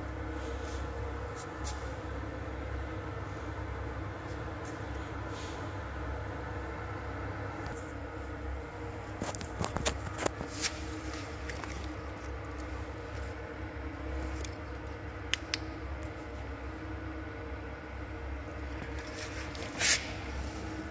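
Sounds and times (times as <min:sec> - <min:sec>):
low mechanical hum: 0:00.0 - 0:20.9.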